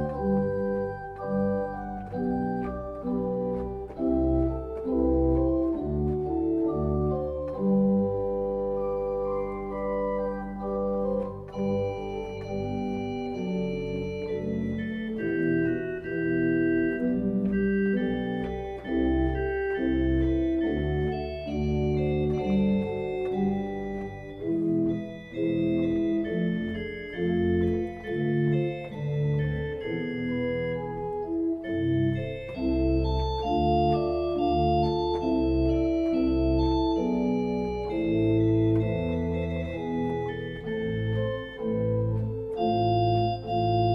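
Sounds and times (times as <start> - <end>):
slow organ music: 0.0 - 43.9.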